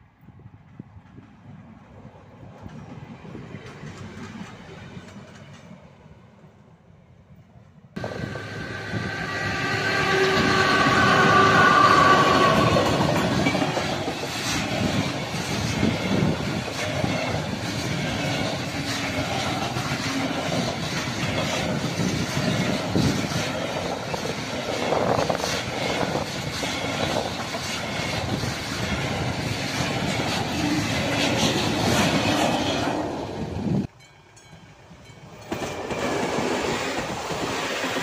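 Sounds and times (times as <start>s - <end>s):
freight train wheels clattering: 2.3s - 5.8s, 9.0s - 38.0s.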